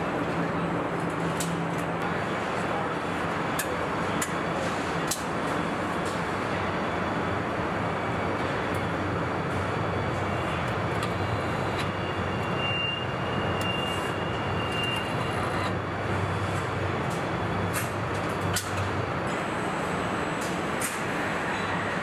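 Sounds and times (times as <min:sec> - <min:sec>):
machinery din with low hum: 0:00.0 - 0:22.0.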